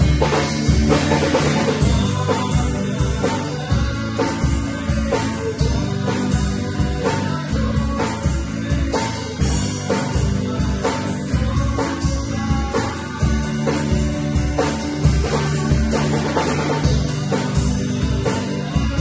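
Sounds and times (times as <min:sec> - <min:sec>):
drum kit steady beat: 0:00.0 - 0:19.0
electric bass: 0:00.0 - 0:19.0
guitar: 0:00.0 - 0:19.0.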